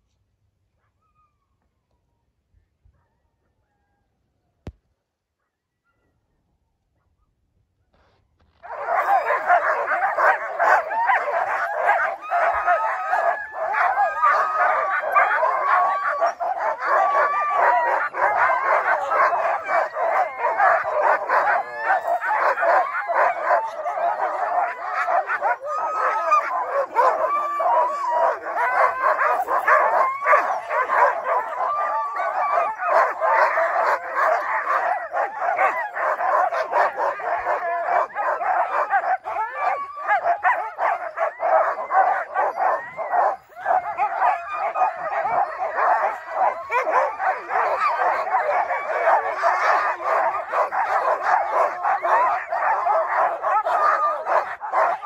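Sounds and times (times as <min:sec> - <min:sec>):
sled dogs barking and yipping: 0:08.0 - 0:55.0
dog howling: 0:08.6 - 0:55.0.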